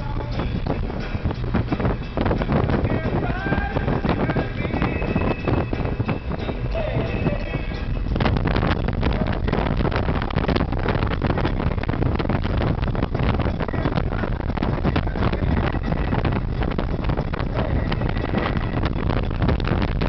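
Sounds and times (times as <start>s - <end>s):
car road rumble: 0.0s - 20.0s
wind rushing over microphone: 0.0s - 20.0s.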